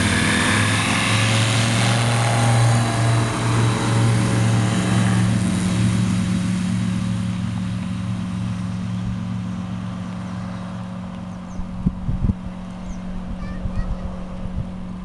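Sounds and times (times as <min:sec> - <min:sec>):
propeller aircraft engine droning: 0:00.0 - 0:15.0.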